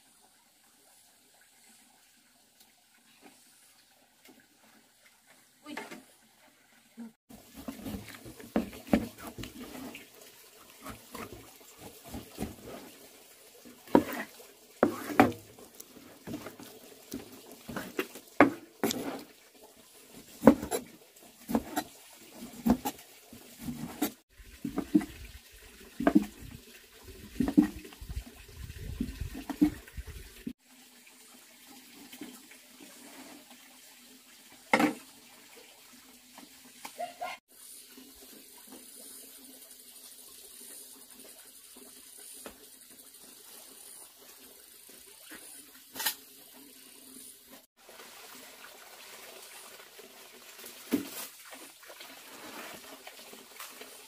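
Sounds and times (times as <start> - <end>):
water splashing and sloshing: 0.8 - 54.0.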